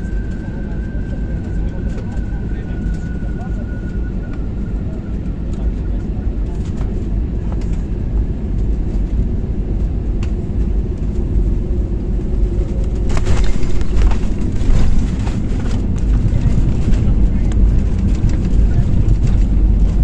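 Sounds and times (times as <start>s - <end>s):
jet engine and airflow rumble: 0.0s - 20.0s.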